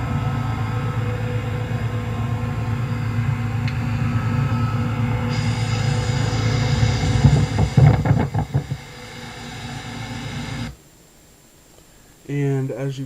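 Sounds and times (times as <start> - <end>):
irregular louder sounds: 0.0 - 10.8
heat pump humming: 0.0 - 11.7.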